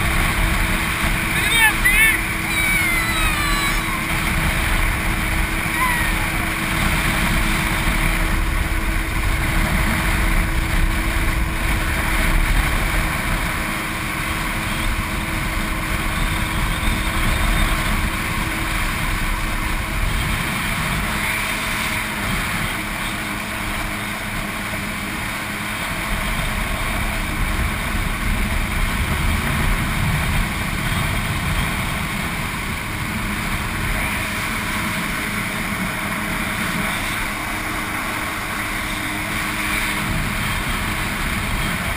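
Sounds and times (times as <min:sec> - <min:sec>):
jet ski engine running: 0:00.0 - 0:41.9
water rushing and spraying: 0:00.0 - 0:41.9.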